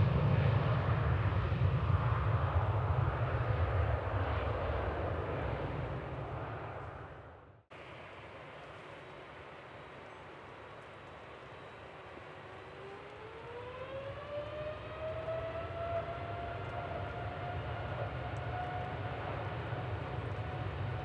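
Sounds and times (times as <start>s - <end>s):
jet engine low rumble: 0.0s - 21.0s
jet engine whine: 0.0s - 21.0s.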